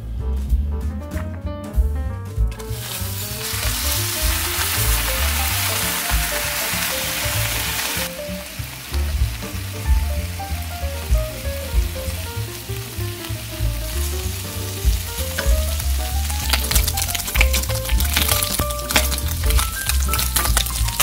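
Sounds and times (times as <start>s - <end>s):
light background music: 0.0s - 21.0s
bacon sizzling in frying pan: 2.6s - 21.0s.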